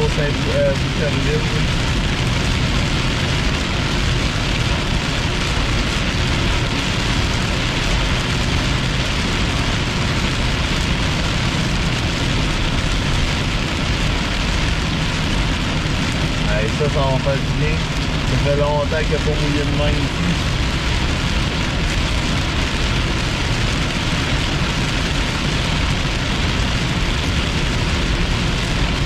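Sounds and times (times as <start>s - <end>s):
rain on car roof: 0.0s - 29.0s
tyres rumbling on wet road: 0.0s - 29.0s.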